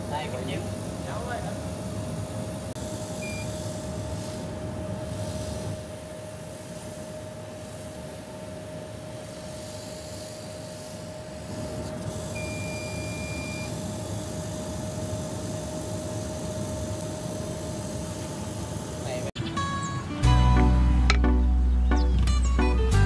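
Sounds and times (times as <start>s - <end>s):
constant hum: 0.0s - 23.0s
fans whirring: 0.0s - 23.0s.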